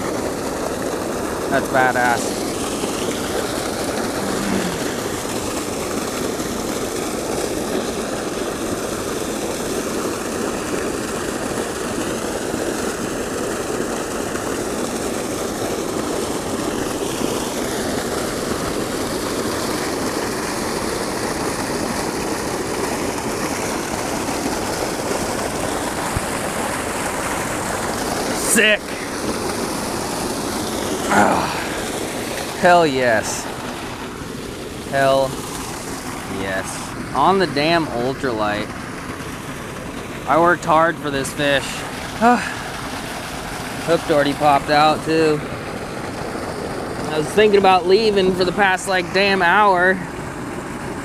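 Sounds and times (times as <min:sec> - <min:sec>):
creek running high: 0:00.0 - 0:51.0
water gushing from a pipe: 0:00.0 - 0:51.0.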